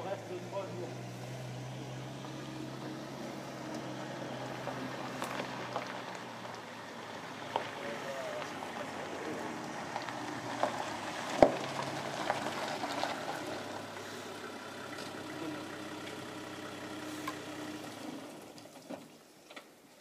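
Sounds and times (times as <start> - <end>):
vehicle engine idling: 0.0 - 18.6.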